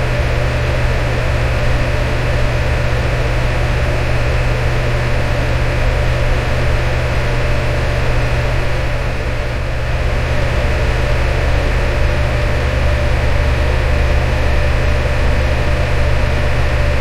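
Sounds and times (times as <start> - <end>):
electric fan whooshing: 0.0 - 17.0.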